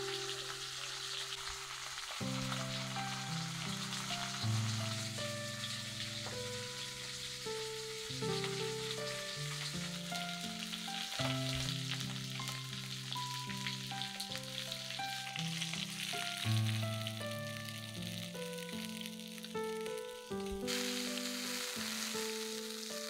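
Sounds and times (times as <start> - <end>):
fish sizzling in oil: 0.0 - 23.0
instrumental music: 0.0 - 23.0.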